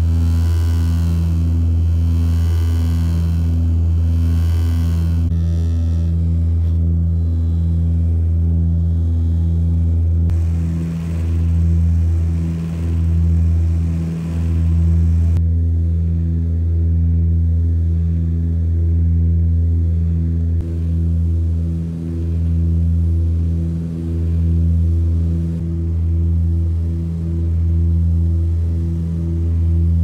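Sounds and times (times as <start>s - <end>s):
turboprop cabin drone: 0.0s - 30.0s.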